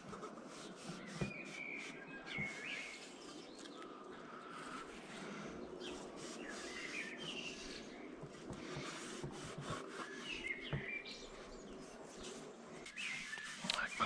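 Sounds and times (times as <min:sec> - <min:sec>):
cloth rubbing on steel helmet: 0:00.0 - 0:03.5, 0:05.0 - 0:14.0
birds chirping: 0:00.5 - 0:14.0.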